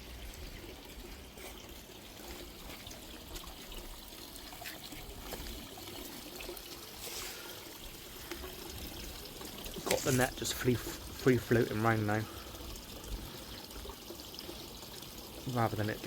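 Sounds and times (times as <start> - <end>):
water trickling into a pond: 0.0 - 16.0.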